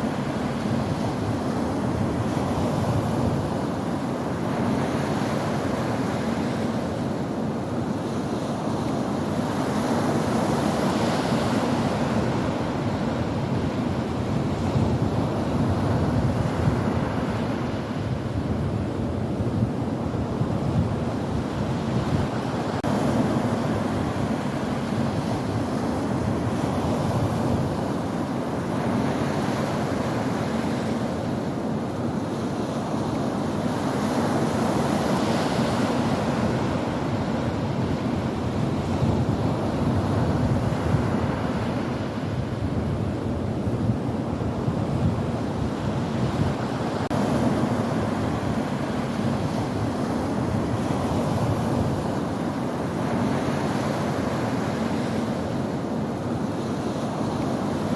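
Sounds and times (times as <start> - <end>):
ocean waves on shore: 0.0 - 57.9.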